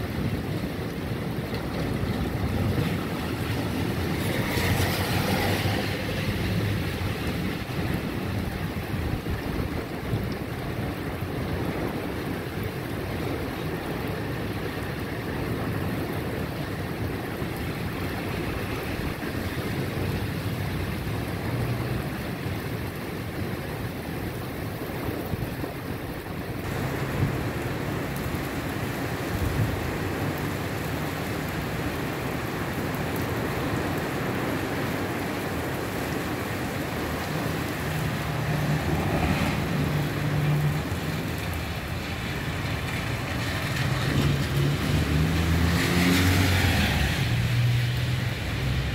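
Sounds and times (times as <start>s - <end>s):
rain falling on wet street: 0.0s - 48.9s
wind: 0.0s - 48.9s.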